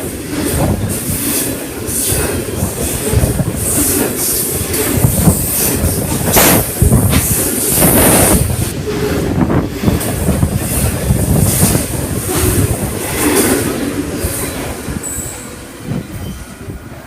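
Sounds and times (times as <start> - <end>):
train wagons rumbling past: 0.0 - 17.0.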